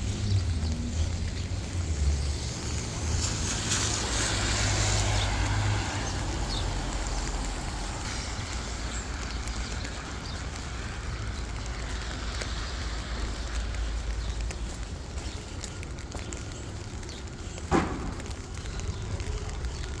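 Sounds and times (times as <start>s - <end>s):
tyres hissing past on wet road: 0.0s - 19.9s
rain hissing: 0.0s - 20.0s
traffic rumble: 0.0s - 20.0s.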